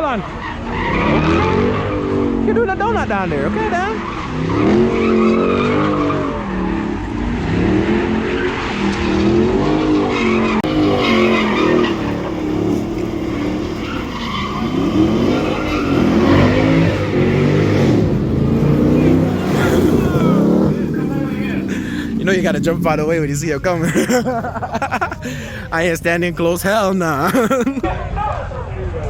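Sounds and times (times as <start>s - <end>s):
car engine revving: 0.0s - 27.8s
tires squealing: 0.0s - 28.3s.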